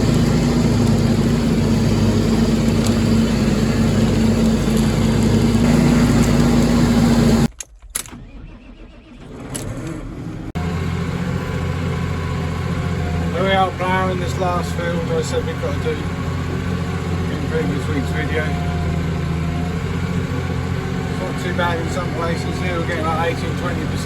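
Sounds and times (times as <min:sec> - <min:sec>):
vehicle engine running: 0:00.0 - 0:07.5, 0:09.3 - 0:24.0
tractor engine running: 0:00.0 - 0:24.0.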